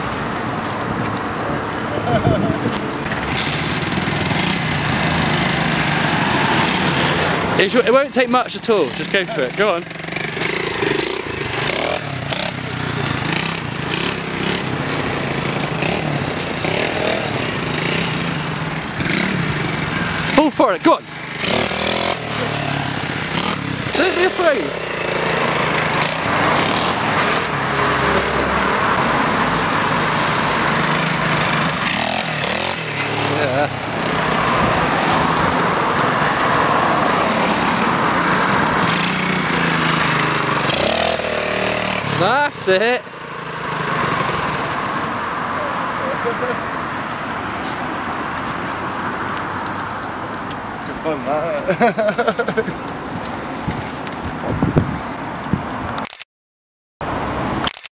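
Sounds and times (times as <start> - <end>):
small motorbike engine running: 0.0 - 46.6, 51.0 - 53.0.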